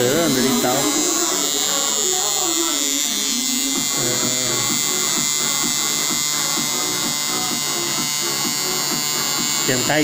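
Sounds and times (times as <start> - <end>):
tattoo machine buzzing: 0.0 - 10.0.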